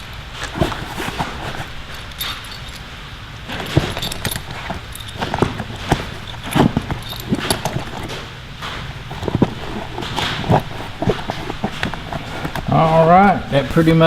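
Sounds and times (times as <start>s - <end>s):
tools clicking and knocking: 0.0s - 13.0s
bag rustling: 0.0s - 14.0s.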